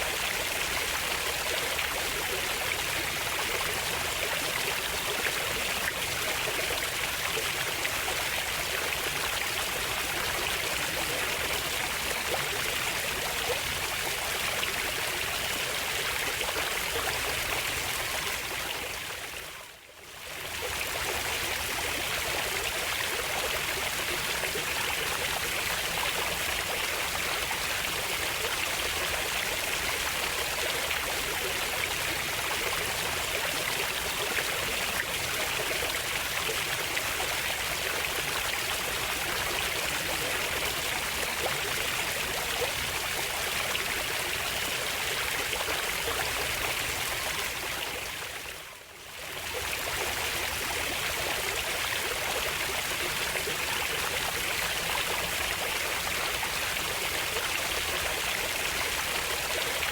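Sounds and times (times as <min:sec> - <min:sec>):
stream rushing and trickling: 0:00.0 - 0:59.9.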